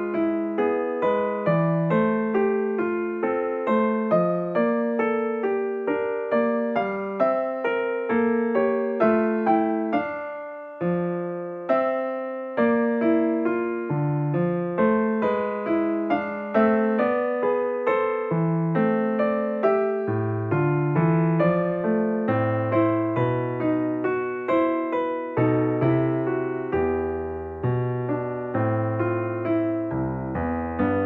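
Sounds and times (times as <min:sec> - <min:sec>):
soft electric piano melody: 0:00.0 - 0:31.0.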